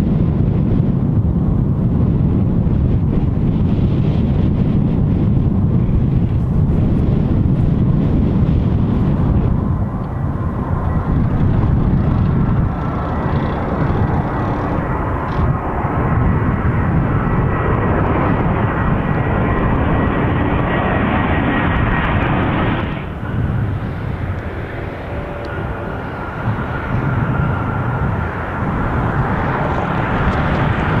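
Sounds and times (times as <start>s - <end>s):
jet engines deep rumble: 0.0s - 31.0s
faint steady whine: 5.8s - 31.0s.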